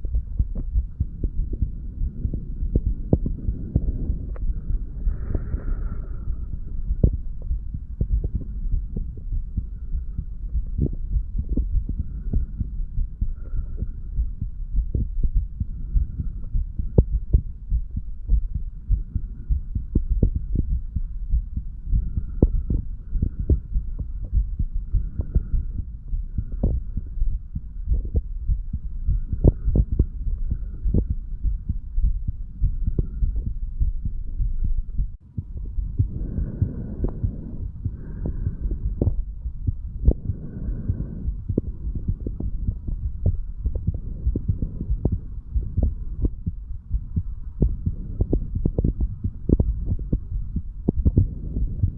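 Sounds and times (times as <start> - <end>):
heartbeat knocks: 0.0 - 51.9
low rumble: 0.0 - 51.9.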